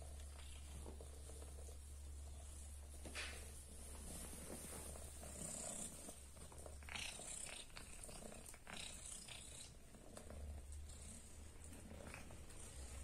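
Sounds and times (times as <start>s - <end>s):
cat purring: 0.0s - 13.0s
kittens rustling: 0.0s - 13.0s.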